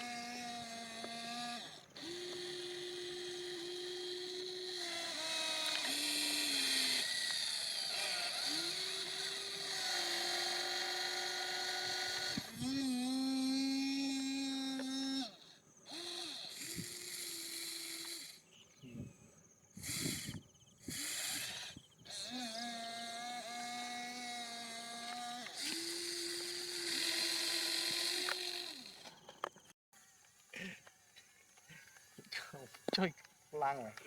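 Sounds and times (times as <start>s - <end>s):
small electric motors whining: 0.0s - 30.5s.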